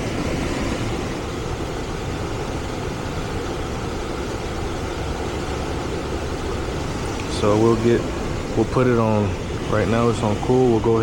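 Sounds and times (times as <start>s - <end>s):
air conditioning system running: 0.0s - 11.0s.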